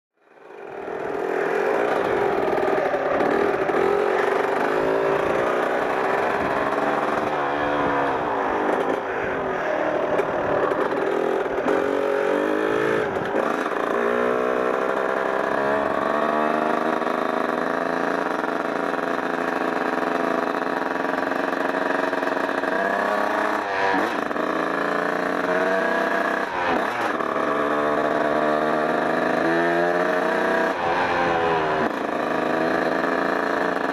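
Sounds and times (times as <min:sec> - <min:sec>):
dirt bike engine revving: 0:00.3 - 0:33.9.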